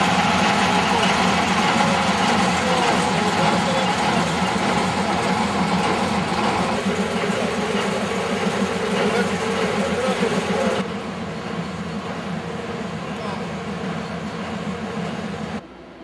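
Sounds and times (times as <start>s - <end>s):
diesel locomotive engine idling: 0.0s - 16.0s.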